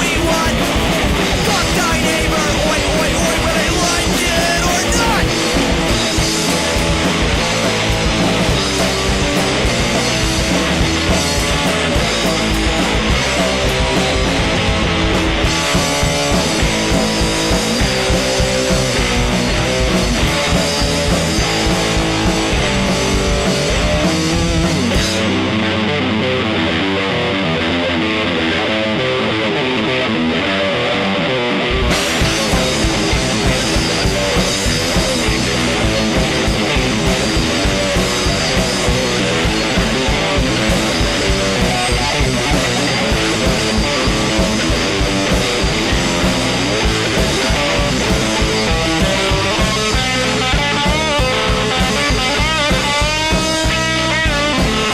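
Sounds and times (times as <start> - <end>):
drums: 0.0 - 54.9
electric guitar: 0.0 - 54.9
punk rock band playing: 0.0 - 54.9.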